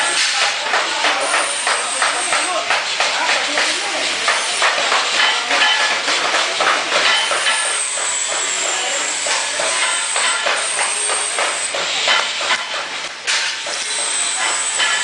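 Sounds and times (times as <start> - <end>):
welding arc crackling and popping: 0.0 - 15.0.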